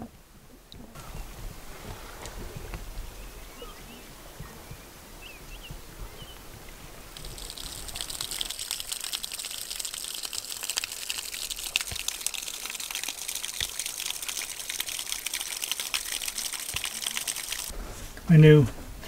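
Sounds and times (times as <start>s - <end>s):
water splashing and trickling: 0.8s - 17.8s.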